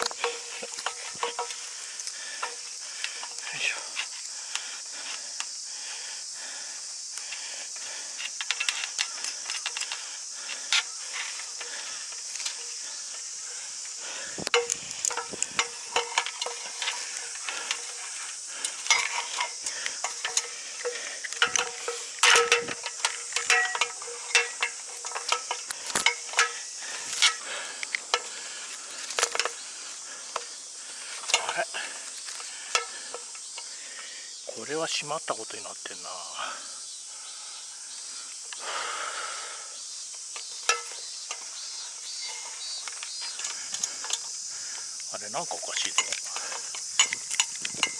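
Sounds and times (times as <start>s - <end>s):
climbing gear clinking: 0.0s - 5.5s, 7.1s - 35.0s, 40.0s - 47.9s
high insect drone: 0.0s - 47.9s.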